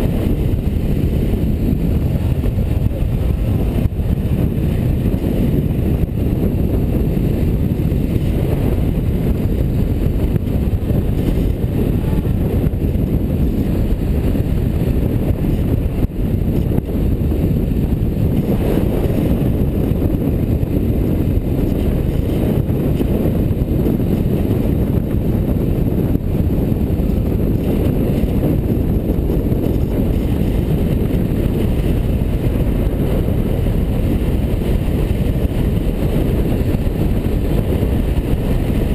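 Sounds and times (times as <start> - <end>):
vehicle road noise: 0.0 - 38.9
wind rush on microphone: 0.0 - 38.9.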